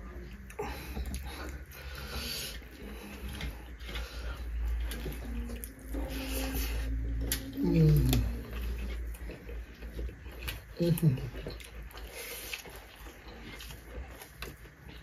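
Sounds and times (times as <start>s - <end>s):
chewing and lip smacks: 0.0s - 15.0s.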